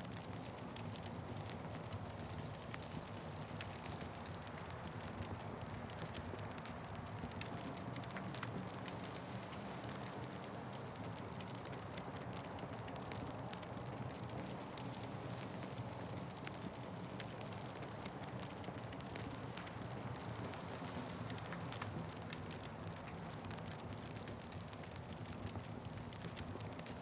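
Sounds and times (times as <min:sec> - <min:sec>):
wood fire crackling: 0:00.1 - 0:27.0.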